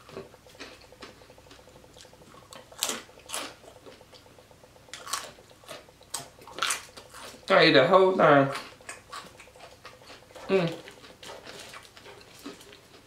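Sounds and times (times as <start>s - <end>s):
chewing crisp pork rind: 0.0s - 13.0s.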